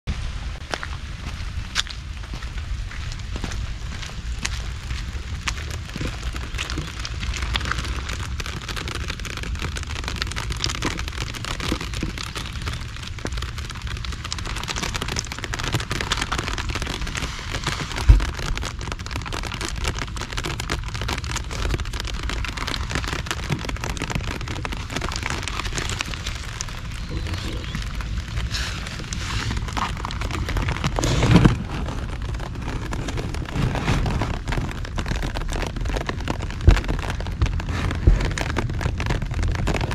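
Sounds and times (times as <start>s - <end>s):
low rumble: 0.0s - 39.9s
heavy rain falling: 0.1s - 39.9s.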